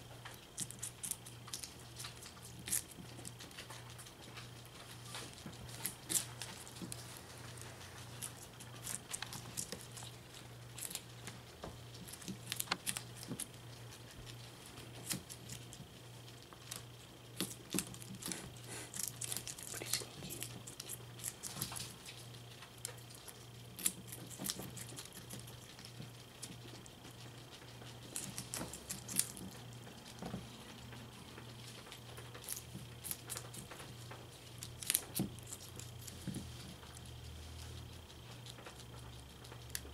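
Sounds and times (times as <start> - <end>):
faint steady hum: 0.0 - 39.9
guinea pigs chewing crunchily: 0.0 - 39.9.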